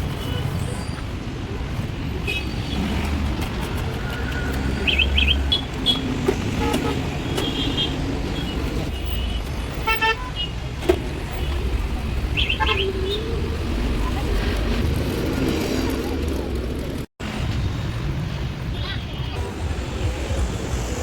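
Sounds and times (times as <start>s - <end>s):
traffic engine rumble: 0.0s - 21.0s.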